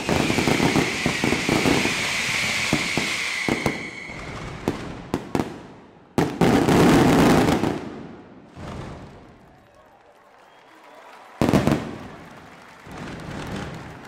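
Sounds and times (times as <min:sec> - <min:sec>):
fireworks bangs: 0:00.0 - 0:09.8, 0:11.3 - 0:14.0
fireworks crackling: 0:00.0 - 0:10.6, 0:11.3 - 0:14.0.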